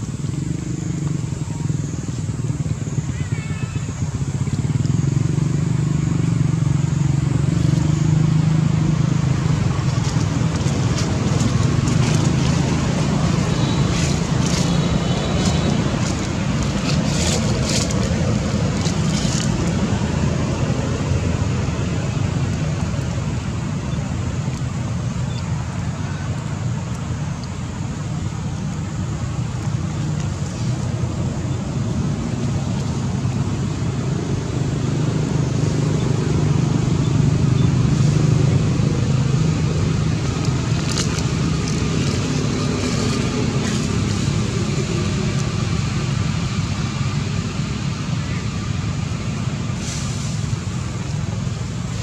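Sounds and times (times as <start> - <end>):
engine running low rumble: 0.0 - 52.0.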